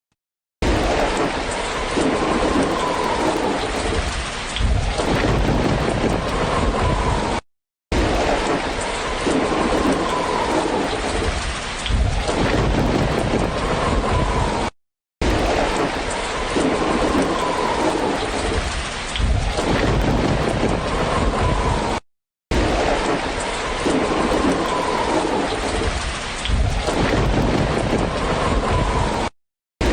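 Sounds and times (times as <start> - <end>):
steady rain: 0.6 - 7.0, 7.9 - 14.0, 15.2 - 22.0, 22.6 - 29.3
low rolling thunder: 0.6 - 29.9.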